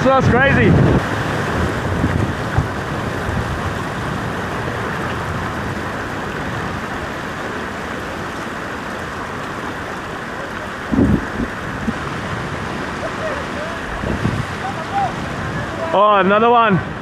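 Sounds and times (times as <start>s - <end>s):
surf washing against rocks: 0.0s - 17.0s.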